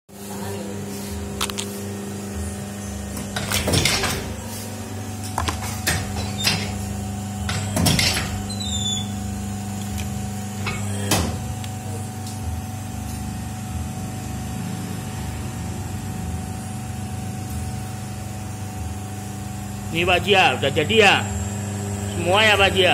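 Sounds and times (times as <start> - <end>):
machine motor hum: 0.1 - 22.9.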